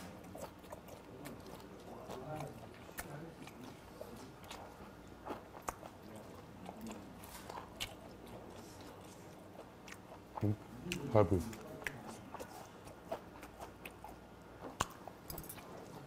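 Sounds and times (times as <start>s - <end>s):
man chewing food: 0.0s - 16.0s.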